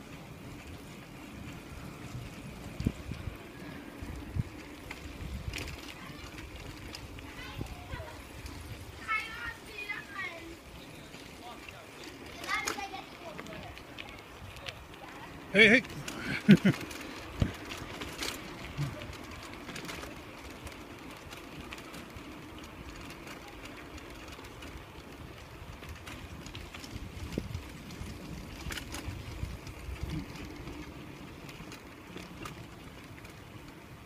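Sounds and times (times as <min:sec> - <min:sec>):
low outdoor rumble: 0:00.0 - 0:34.0.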